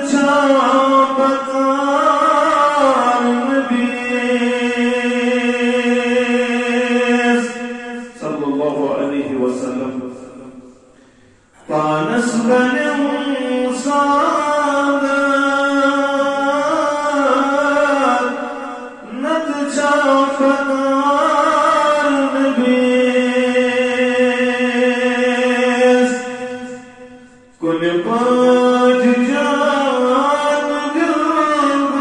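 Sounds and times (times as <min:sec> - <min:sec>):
man chanting unaccompanied: 0:00.0 - 0:10.8, 0:11.5 - 0:32.0.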